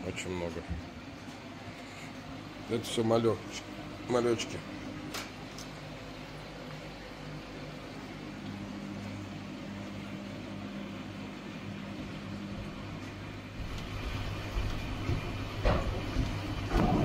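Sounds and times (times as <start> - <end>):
aquarium air pump hum: 0.0 - 17.0.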